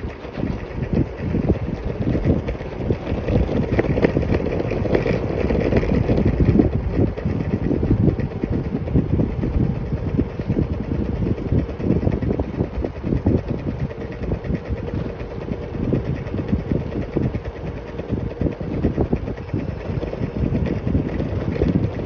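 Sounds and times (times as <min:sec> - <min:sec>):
scooter engine running: 0:00.0 - 0:22.0
wind buffeting microphone: 0:00.0 - 0:22.0.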